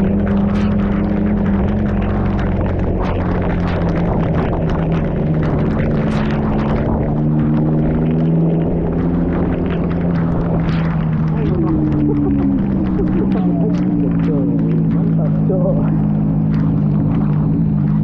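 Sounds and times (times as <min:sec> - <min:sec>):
motorcycle engine cruising: 0:00.0 - 0:18.0
wind and road noise: 0:00.0 - 0:18.0.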